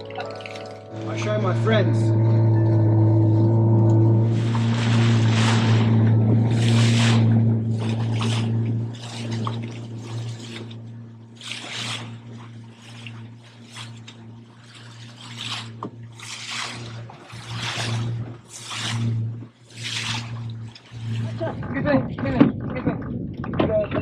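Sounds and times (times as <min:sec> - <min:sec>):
boat engine humming: 0:00.0 - 0:24.0
water splashing against hull: 0:00.0 - 0:24.0.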